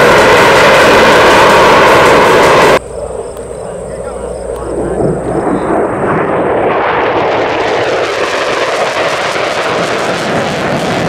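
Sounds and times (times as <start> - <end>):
fighter jet flying by: 0.0 - 11.0.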